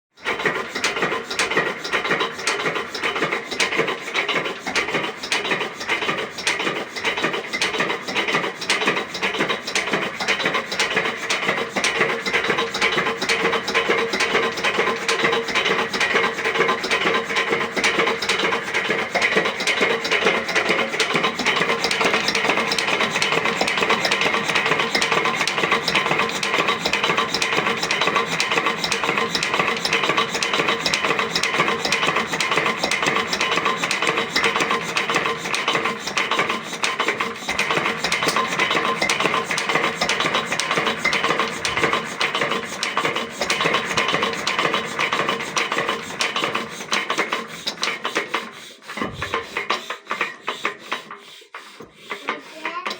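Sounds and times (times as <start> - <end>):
diesel engine clattering: 0.3 - 48.2.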